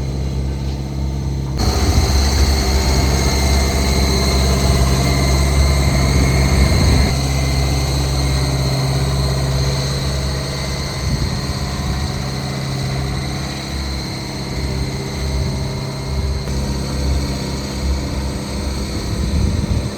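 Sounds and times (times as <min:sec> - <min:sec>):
diesel engine running low: 0:00.0 - 0:19.9.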